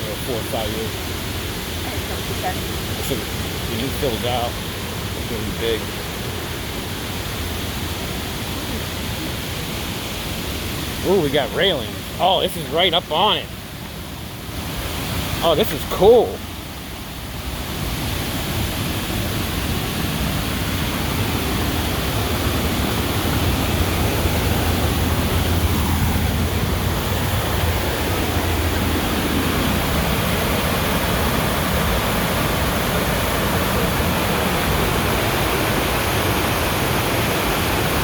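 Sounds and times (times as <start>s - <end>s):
waterfall roaring: 0.0s - 38.0s.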